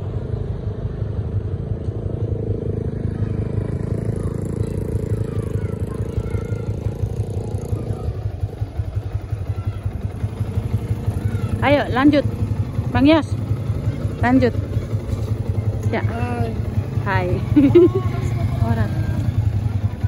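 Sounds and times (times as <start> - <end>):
small motorcycle engine running: 0.0 - 20.0.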